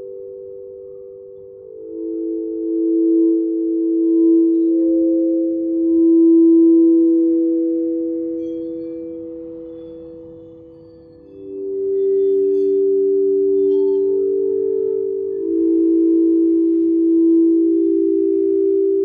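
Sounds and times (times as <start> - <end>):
ambient bell-like drone: 0.0 - 19.0.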